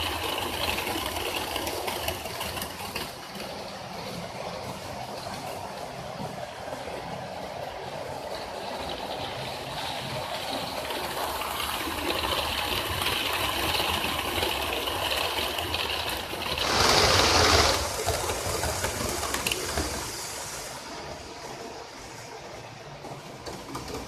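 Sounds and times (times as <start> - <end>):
model train wheels rumbling: 0.0 - 24.0.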